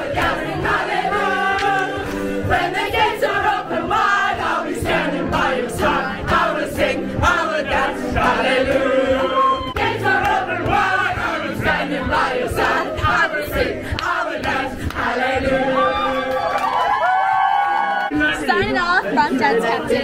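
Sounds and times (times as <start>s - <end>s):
group of people singing: 0.0s - 17.1s, 18.1s - 20.0s.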